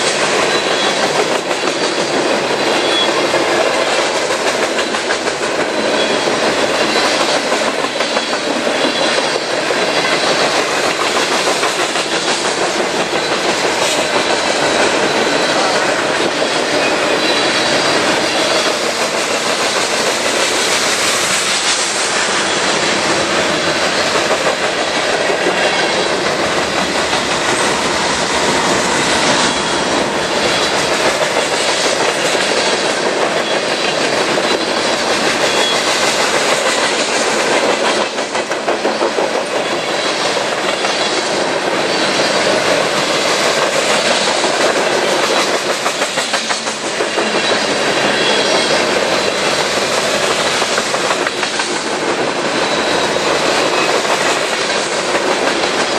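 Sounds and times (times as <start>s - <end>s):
railroad cars rolling past: 0.0s - 55.9s
wheels clicking over rail joints: 0.0s - 55.9s.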